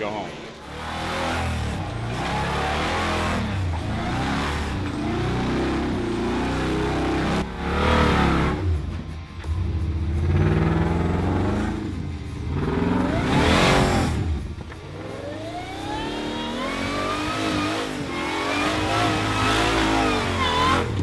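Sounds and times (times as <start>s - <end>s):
engine revving hard: 0.6s - 21.0s.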